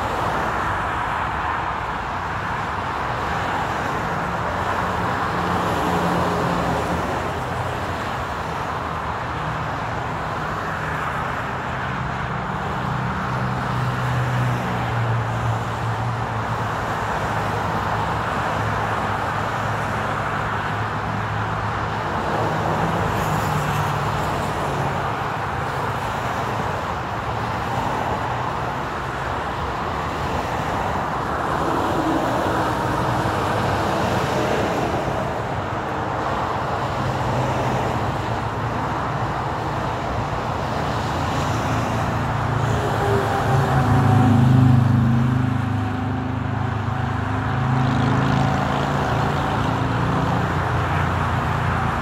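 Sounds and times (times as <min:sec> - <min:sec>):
freeway traffic tyres rushing: 0:00.0 - 0:52.0.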